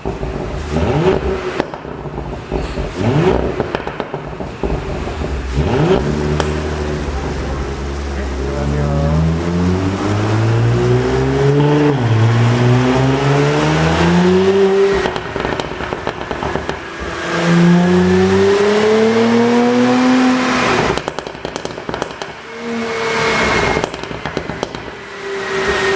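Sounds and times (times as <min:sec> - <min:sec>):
car engine revving: 0:00.0 - 0:25.9
exhaust crackles and pops: 0:00.0 - 0:25.9.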